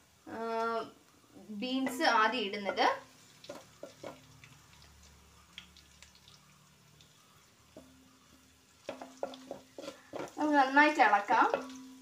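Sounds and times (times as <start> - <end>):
vegetables frying in a pan: 0.0 - 12.0.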